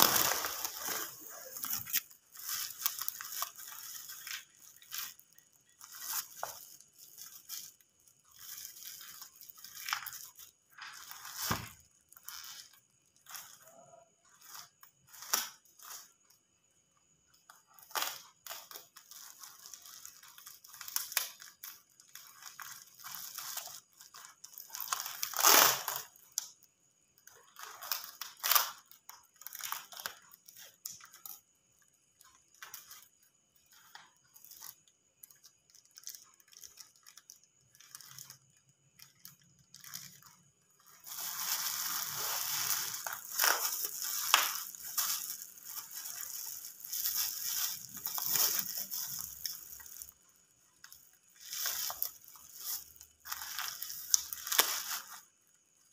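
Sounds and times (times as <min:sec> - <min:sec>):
plastic tearing: 0:00.0 - 0:16.4, 0:17.5 - 0:26.6, 0:27.2 - 0:31.4, 0:32.2 - 0:55.9
plastic wrapping crinkling: 0:00.0 - 0:55.9.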